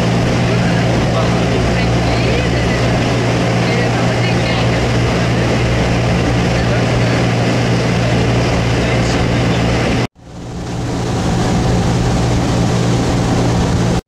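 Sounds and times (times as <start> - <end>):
boat engine humming: 0.0 - 14.0
water rushing: 0.0 - 14.0
wind: 0.0 - 14.0.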